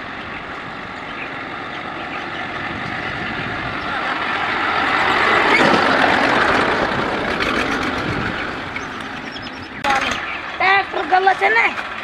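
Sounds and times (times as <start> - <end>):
tractor driving past: 0.0 - 12.0.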